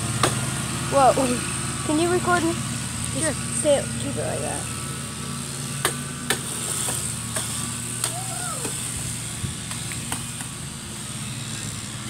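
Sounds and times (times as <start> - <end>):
small motor droning: 0.0 - 12.0.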